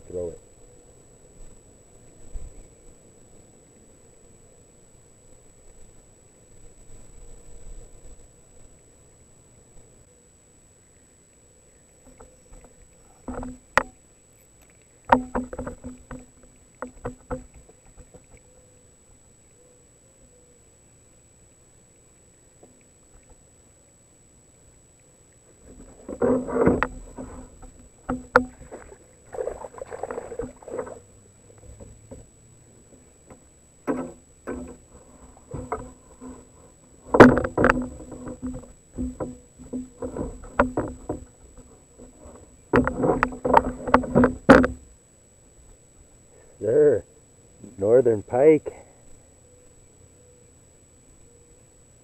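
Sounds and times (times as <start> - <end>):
hull humming: 0.0 - 52.0.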